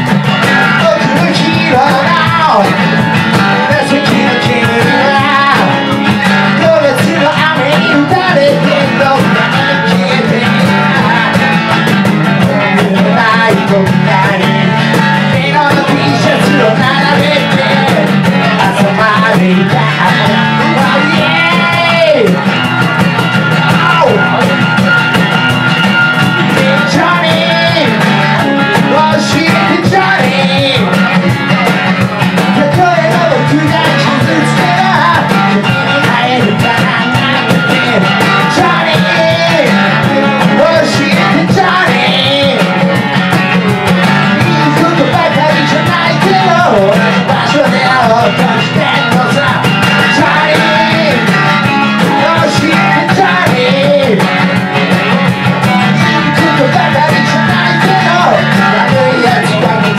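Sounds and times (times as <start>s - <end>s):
man singing: 0.0s - 25.4s, 26.0s - 59.9s
cajon drum: 0.0s - 59.9s
strummed acoustic guitar: 0.0s - 59.9s.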